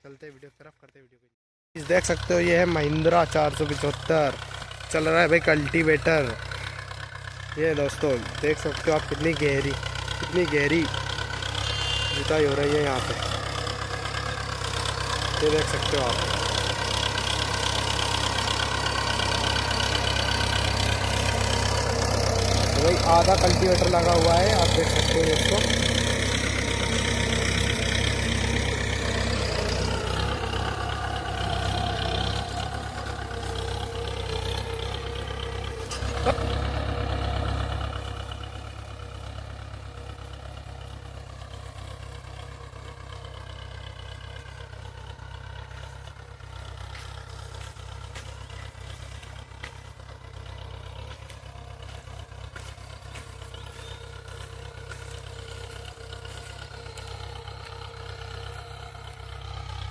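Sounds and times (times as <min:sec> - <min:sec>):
tractor diesel engine running: 0:01.8 - 0:59.9.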